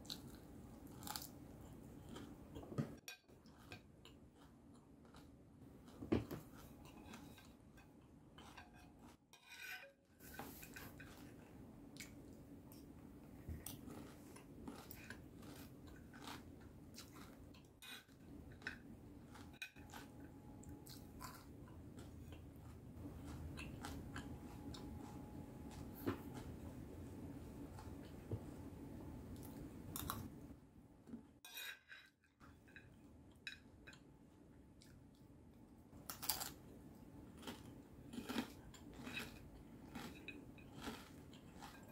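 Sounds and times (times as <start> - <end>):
faint chewing of crispy food: 0.0 - 9.3, 10.2 - 28.6, 29.3 - 30.4, 36.0 - 41.9.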